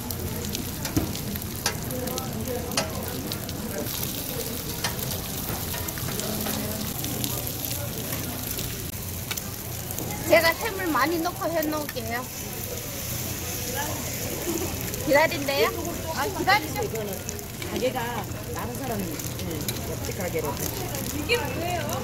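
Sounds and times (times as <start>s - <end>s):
pancakes sizzling in oil: 0.0s - 22.0s.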